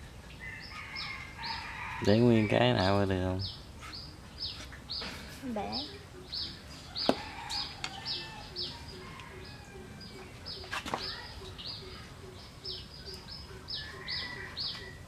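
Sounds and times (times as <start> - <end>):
small bird chirping: 2.8 - 15.0.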